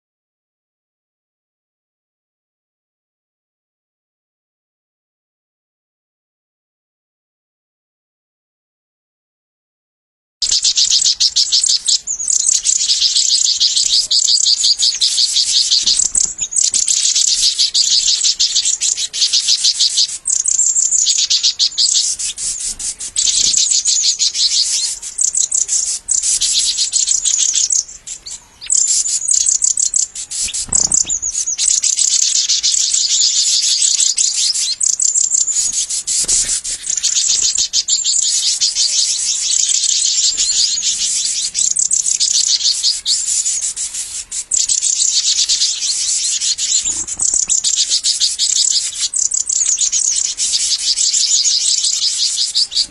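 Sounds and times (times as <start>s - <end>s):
high-pitched rapid chirping: 10.4s - 52.9s.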